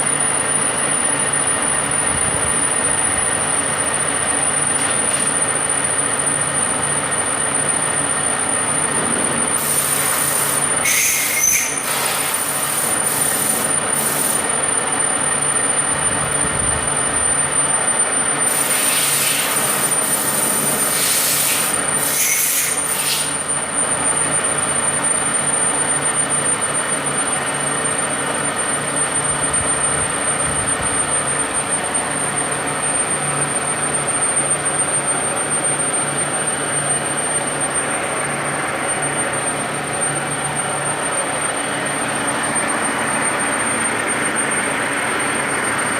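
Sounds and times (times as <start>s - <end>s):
thin high whine: 0.0s - 45.9s.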